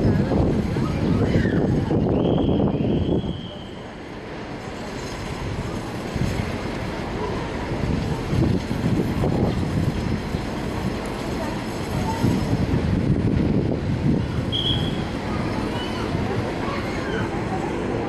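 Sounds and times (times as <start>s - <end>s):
locomotive and wheels rumbling: 0.0s - 18.0s.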